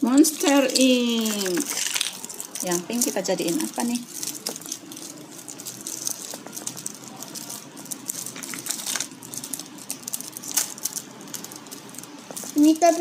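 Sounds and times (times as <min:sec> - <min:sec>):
plastic tools clicking and rattling: 0:00.1 - 0:13.0.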